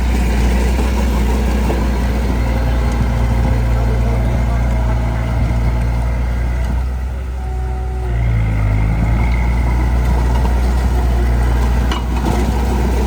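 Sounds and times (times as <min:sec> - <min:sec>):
heavy diesel engine under load: 0:00.0 - 0:13.0.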